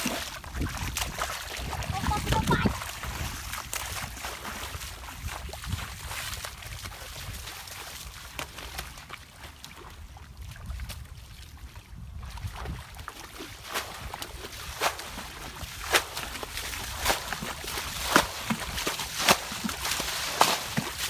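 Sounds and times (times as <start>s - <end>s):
water splashing from bucket: 0.0s - 9.9s, 12.4s - 21.0s.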